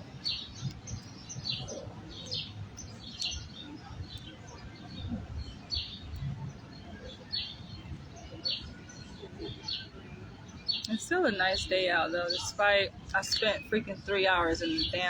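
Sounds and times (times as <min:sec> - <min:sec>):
bird chirping: 0:00.2 - 0:15.0.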